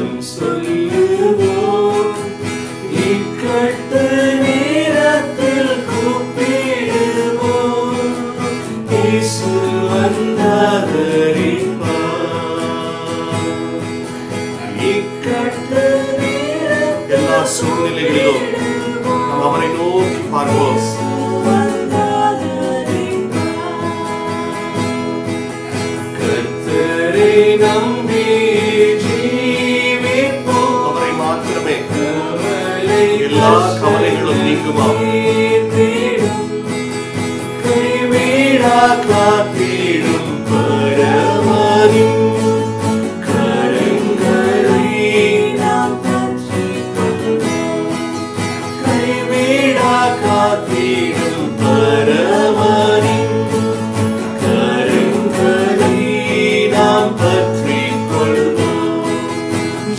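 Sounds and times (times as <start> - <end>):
acoustic guitar: 0.0 - 59.9
people singing worship song: 0.0 - 59.9.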